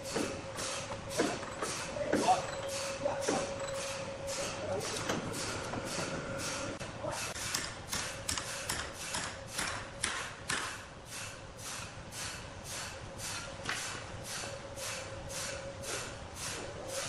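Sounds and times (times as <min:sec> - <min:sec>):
sawmill machinery hum: 0:00.0 - 0:17.0.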